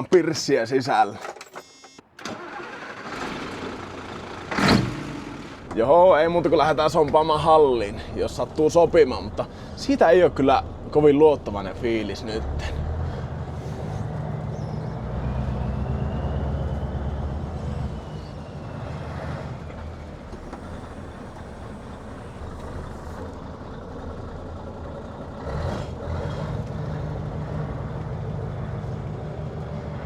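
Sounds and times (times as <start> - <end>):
diesel truck engine: 2.1 - 30.0.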